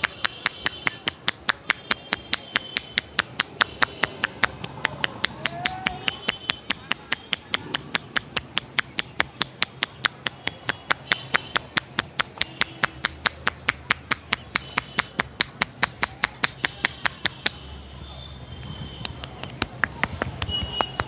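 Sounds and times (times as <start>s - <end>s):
hands slapping on head: 0.0s - 17.6s.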